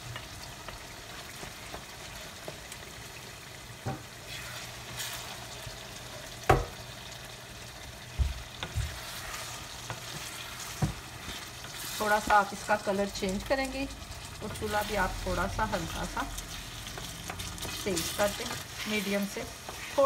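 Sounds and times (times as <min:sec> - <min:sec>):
meat sizzling in frying pan: 0:00.0 - 0:20.0.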